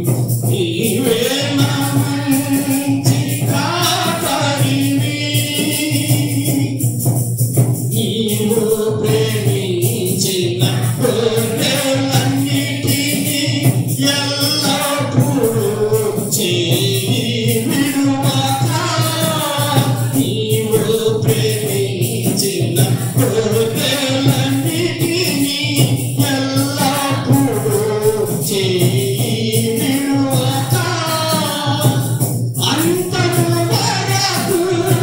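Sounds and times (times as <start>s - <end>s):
person singing devotional song: 0.0s - 6.9s, 7.9s - 35.0s
instrumental backing: 0.0s - 35.0s
steady percussion beat: 0.0s - 35.0s.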